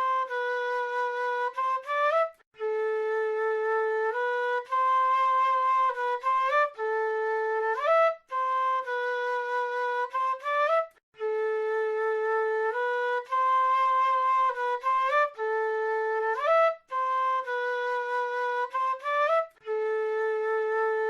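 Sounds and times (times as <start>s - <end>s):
flute playing slow melody: 0.0s - 21.0s.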